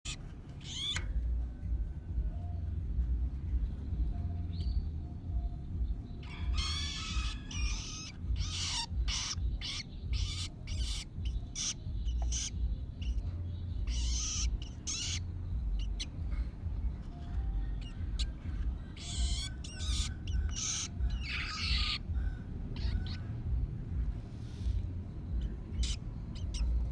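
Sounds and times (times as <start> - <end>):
bird chick begging calls: 0.1 - 1.2, 6.2 - 26.9
low rumble: 0.3 - 26.9.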